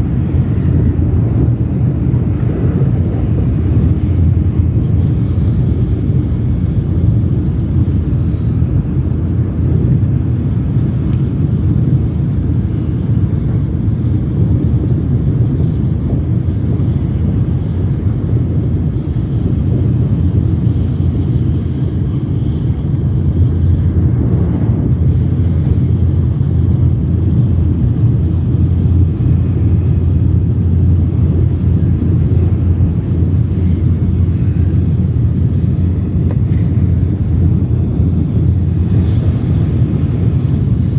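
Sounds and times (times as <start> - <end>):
high-speed train rumbling: 0.0 - 40.9.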